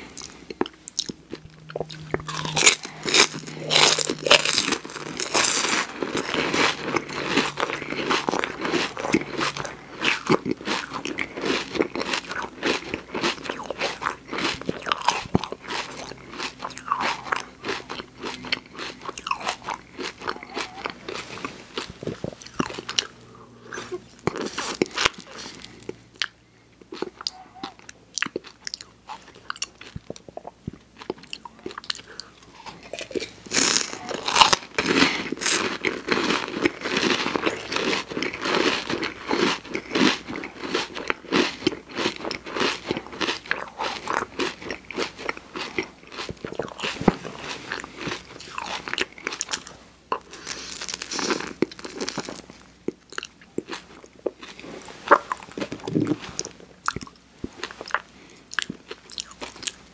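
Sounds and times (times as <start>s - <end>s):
crunching wafer cone: 0.0s - 26.3s, 31.0s - 59.9s.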